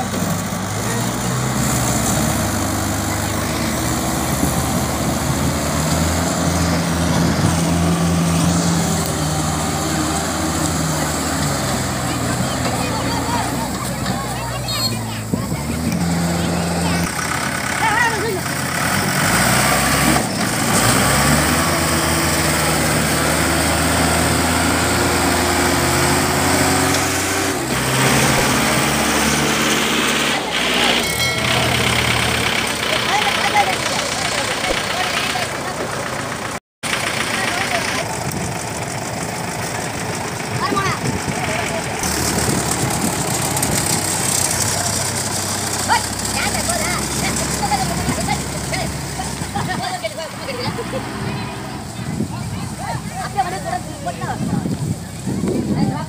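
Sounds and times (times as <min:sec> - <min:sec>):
diesel engines running under load: 0:00.0 - 0:56.0.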